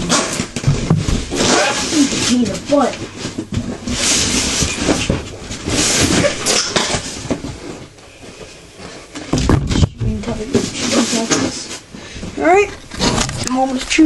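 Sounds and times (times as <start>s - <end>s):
cardboard scraping and rustling: 0.0s - 11.8s, 12.8s - 14.0s
heavy thumps: 0.0s - 13.4s.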